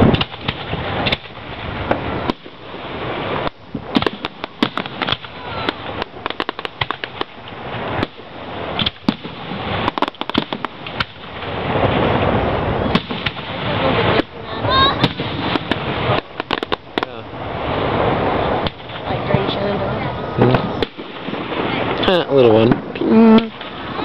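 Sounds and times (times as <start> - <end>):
fireworks cracks and pops: 0.0 - 19.6, 20.4 - 24.0
low rumble of booms: 0.0 - 24.0.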